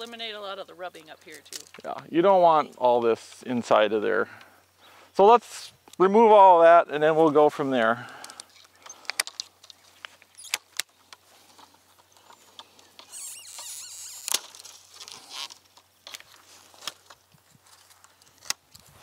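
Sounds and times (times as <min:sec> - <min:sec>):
twigs and leaves rustling: 0:00.0 - 0:19.0.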